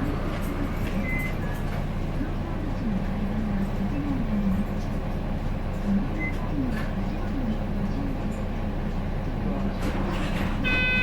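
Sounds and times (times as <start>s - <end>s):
bus diesel engine idling: 0.0s - 11.0s.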